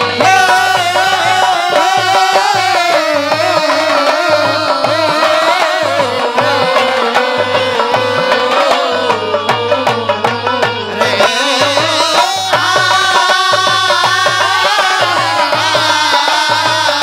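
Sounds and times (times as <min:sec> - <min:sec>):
hand drum beat: 0:00.0 - 0:17.0.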